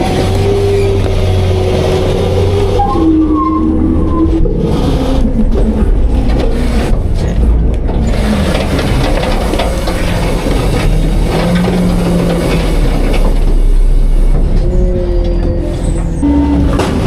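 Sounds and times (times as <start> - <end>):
garbage truck engine under load: 0.0 - 17.0
hydraulics whining: 0.0 - 17.0.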